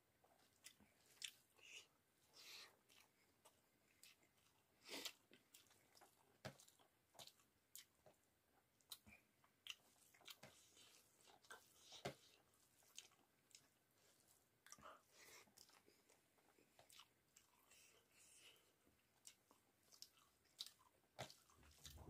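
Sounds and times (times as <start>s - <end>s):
person chewing food: 0.2s - 22.0s.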